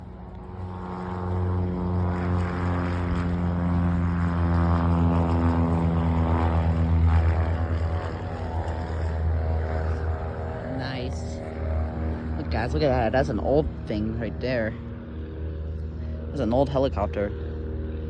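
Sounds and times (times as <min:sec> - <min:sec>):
low-flying aircraft engine drone: 0:00.0 - 0:18.0.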